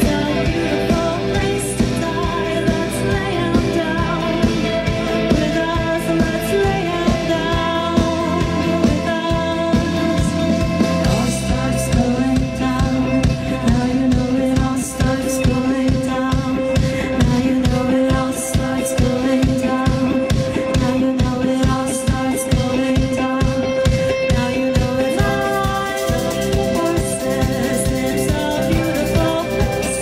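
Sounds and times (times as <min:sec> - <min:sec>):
live rock band playing: 0:00.0 - 0:30.0
person singing: 0:00.0 - 0:30.0.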